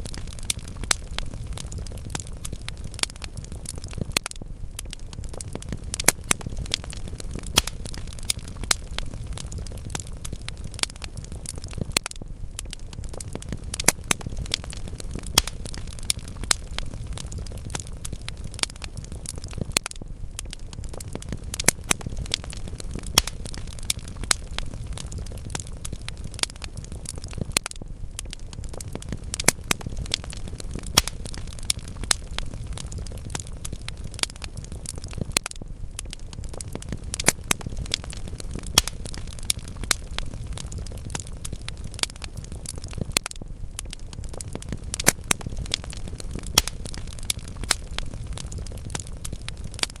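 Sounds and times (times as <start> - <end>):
logs crackling and popping: 0.0 - 50.0
low rumble of flames: 0.0 - 50.0.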